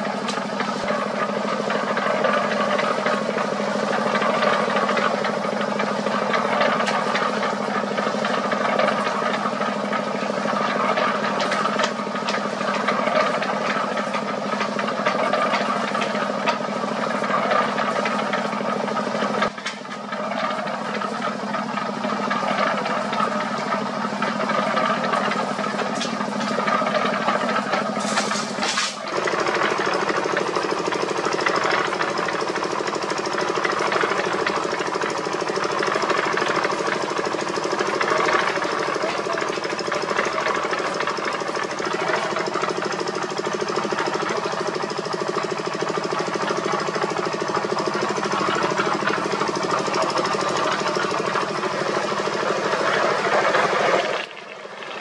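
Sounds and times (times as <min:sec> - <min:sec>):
cement mixer diesel engine clattering: 0:00.0 - 0:55.0.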